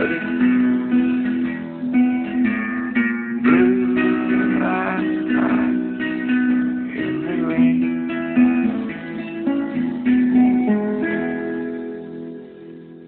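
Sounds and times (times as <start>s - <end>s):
guitar playing slow picked notes: 0.0s - 13.0s.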